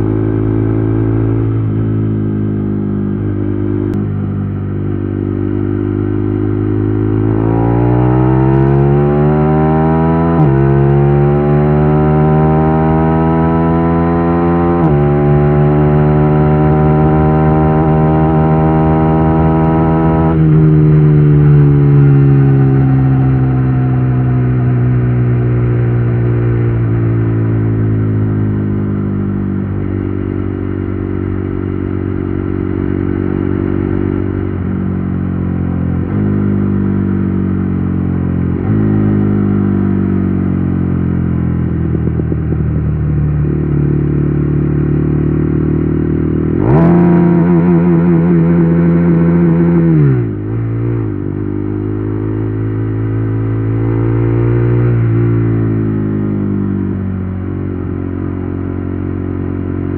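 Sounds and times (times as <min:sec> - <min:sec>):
motorcycle engine decelerating: 0:00.0 - 0:59.9.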